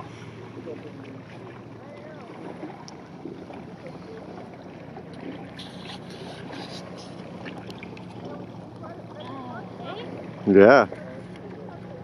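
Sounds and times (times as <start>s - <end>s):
paddle splashes: 0.0s - 12.0s
water lapping around kayak: 0.0s - 12.0s.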